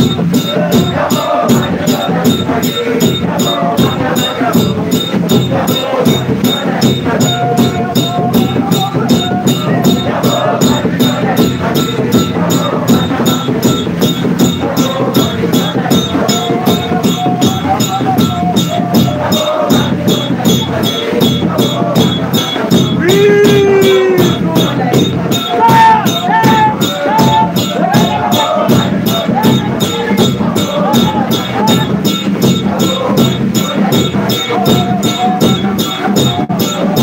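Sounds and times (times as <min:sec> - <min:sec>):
congregation singing: 0:00.0 - 0:37.0
jingling drummed beat: 0:00.0 - 0:37.0.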